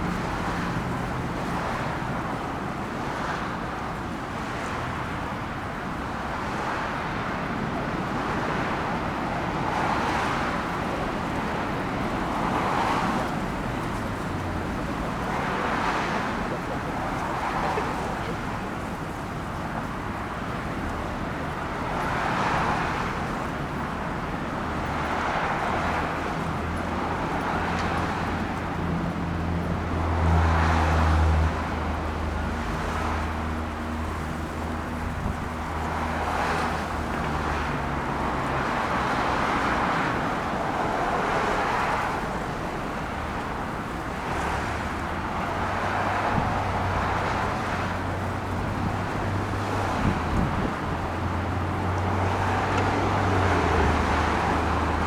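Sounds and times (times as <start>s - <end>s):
motor vehicles passing: 6.5s - 55.0s.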